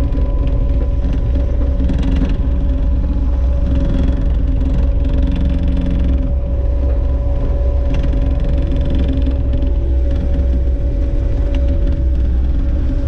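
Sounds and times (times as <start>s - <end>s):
diesel engine rumbling with whine: 0.0s - 13.0s.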